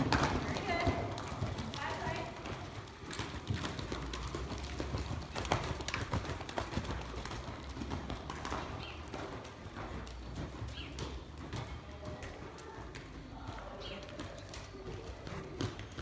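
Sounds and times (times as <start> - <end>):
horse hoofbeats on soft dirt: 0.0 - 16.0.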